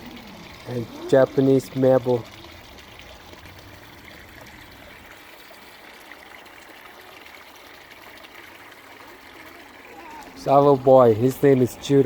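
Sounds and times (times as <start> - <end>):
small waterfall splashing into pond: 0.0 - 12.0.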